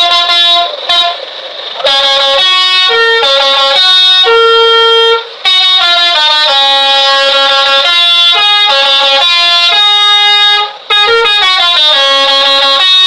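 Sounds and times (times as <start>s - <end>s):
bus musical horn playing a tune: 0.0s - 13.0s.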